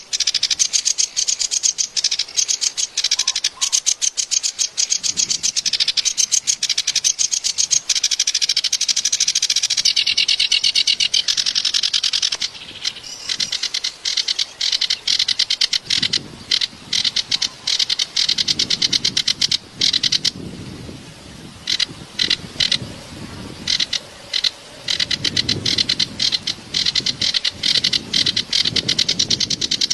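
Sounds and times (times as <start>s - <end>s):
reed warbler chattering song: 0.0s - 29.9s.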